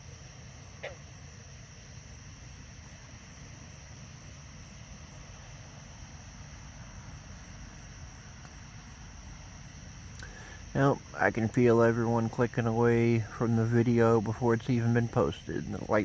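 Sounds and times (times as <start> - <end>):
crickets and insects trilling: 0.0 - 16.0
low steady rumble: 0.0 - 16.0.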